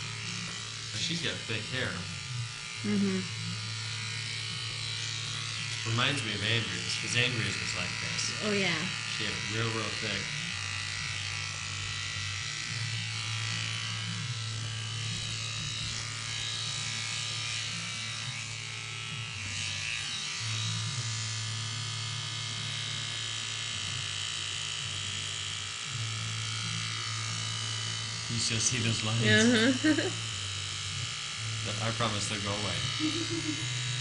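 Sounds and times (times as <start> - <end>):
electric hair clippers buzzing: 0.0 - 34.0.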